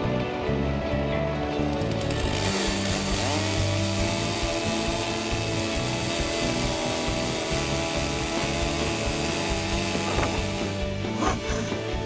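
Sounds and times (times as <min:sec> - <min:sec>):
background music: 0:00.0 - 0:12.0
chainsaw cutting a log: 0:01.7 - 0:11.6.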